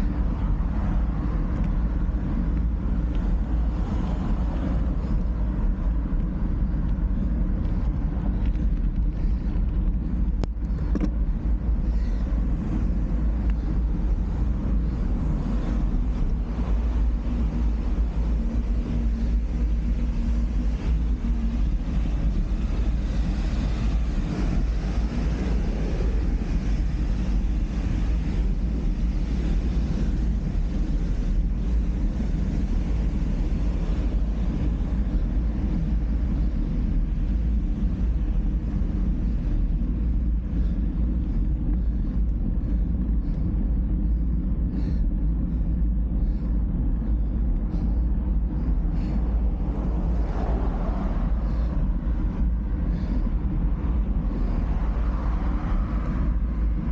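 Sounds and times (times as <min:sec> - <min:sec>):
road noise from bike: 0:00.0 - 0:56.9
wind buffeting microphone: 0:00.0 - 0:56.9.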